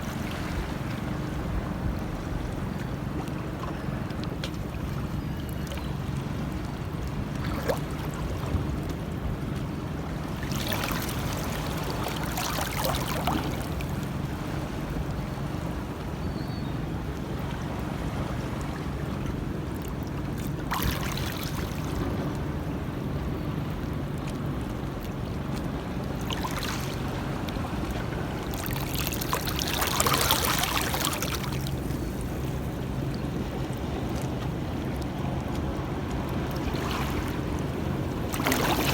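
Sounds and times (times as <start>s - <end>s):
water lapping and splashing: 0.0s - 38.9s.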